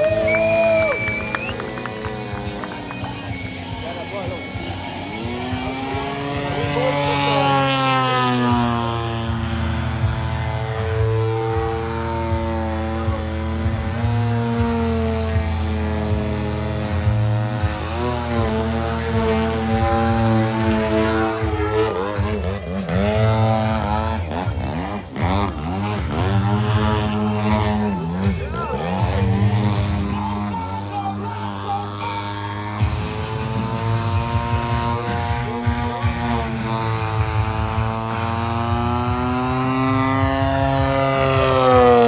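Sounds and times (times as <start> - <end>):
model airplane engine and propeller: 0.0 - 42.0.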